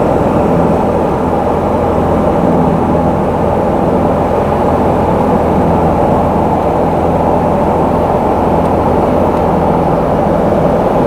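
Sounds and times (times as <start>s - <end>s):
propeller airplane engine drone: 0.0s - 11.0s.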